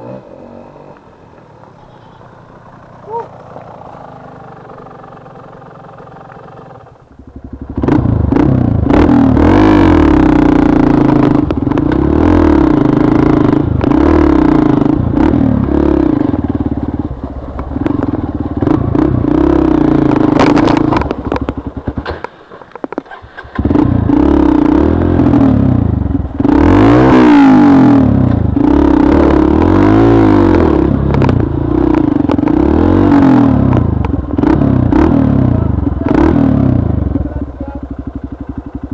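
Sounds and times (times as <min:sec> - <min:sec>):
motorbike engine revving: 0:02.7 - 0:22.3, 0:22.9 - 0:38.9.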